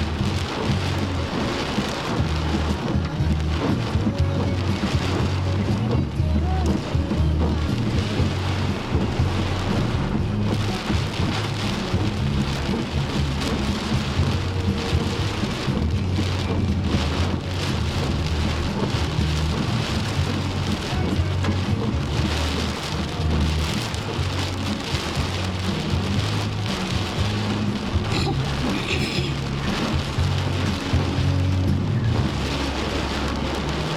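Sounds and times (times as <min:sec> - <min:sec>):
heavy rain pouring: 0:00.0 - 0:33.9
low rumble: 0:00.0 - 0:33.9.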